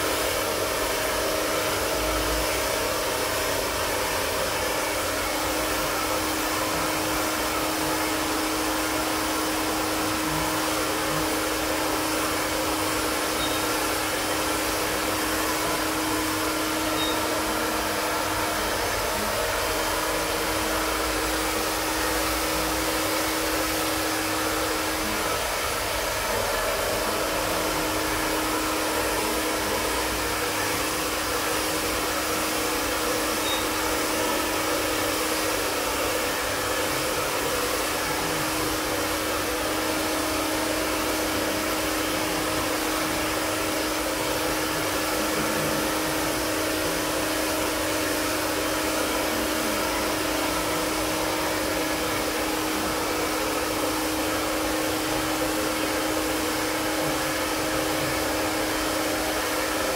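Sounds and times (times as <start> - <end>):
blower fan rushing: 0.0 - 59.9.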